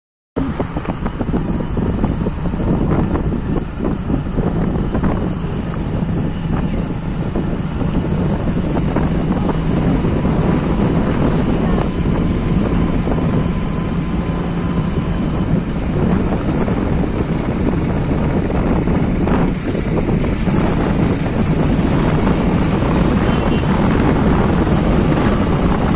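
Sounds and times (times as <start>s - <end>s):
vehicle engine humming: 0.4s - 25.9s
wind on microphone: 0.4s - 25.9s.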